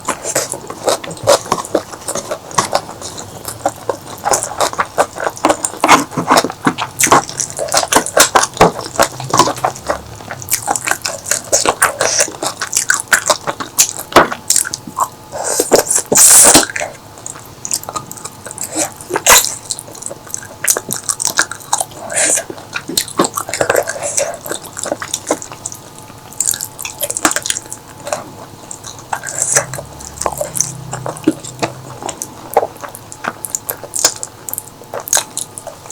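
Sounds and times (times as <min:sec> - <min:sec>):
wet chewing and lip smacks: 0:00.0 - 0:35.9.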